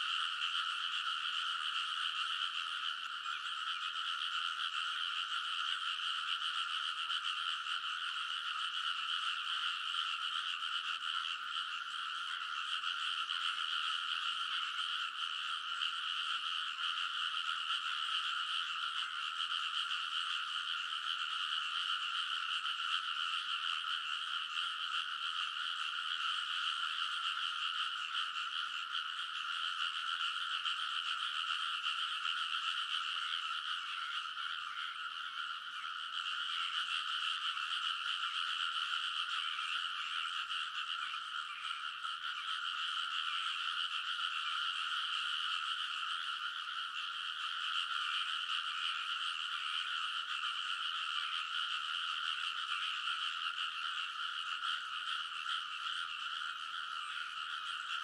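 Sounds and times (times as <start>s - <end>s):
frogs calling in chorus: 0.0s - 58.0s.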